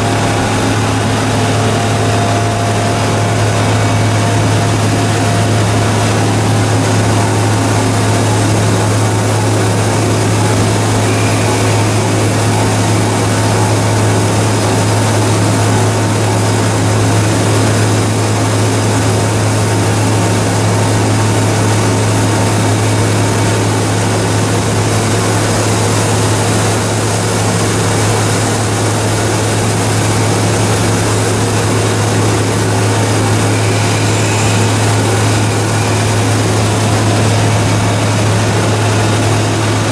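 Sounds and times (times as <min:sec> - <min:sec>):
machine low hum: 0:00.0 - 0:39.9.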